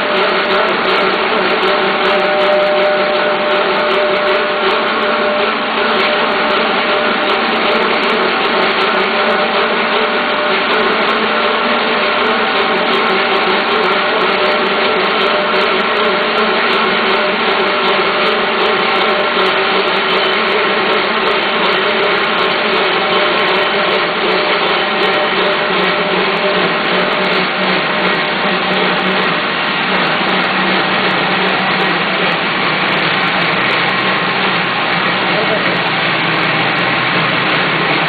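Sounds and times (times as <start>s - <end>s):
milling machine cutting metal: 0.0s - 38.0s.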